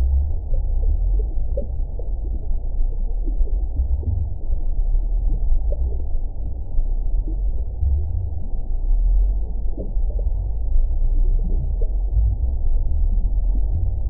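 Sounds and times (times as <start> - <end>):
lava bubbling rumble: 0.0 - 14.0
low blips and pops: 0.0 - 14.0.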